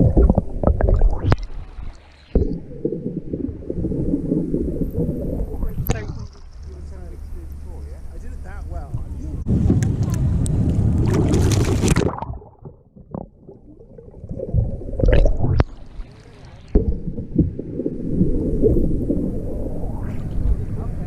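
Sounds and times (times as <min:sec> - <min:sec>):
water splashing around kayak: 0:00.0 - 0:08.4, 0:09.0 - 0:21.0.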